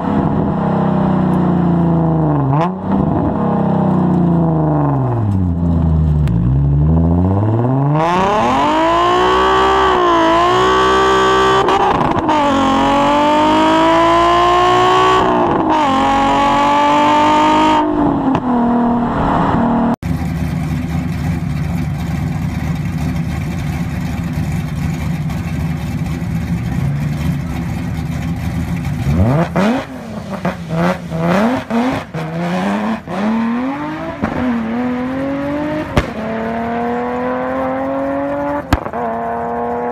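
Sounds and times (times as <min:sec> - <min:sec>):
car engine accelerating hard: 0:00.0 - 0:39.9
engine droning: 0:00.0 - 0:39.9.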